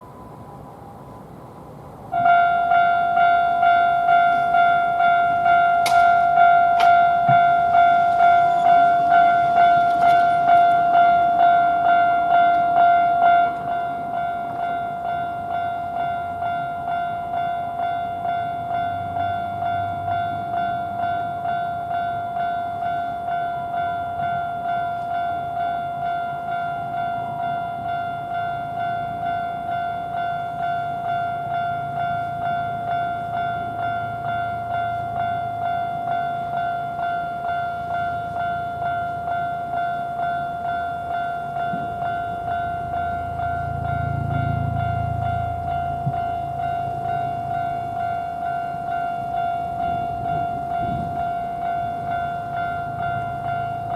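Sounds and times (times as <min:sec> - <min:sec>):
level-crossing warning bell: 0:00.0 - 0:53.9.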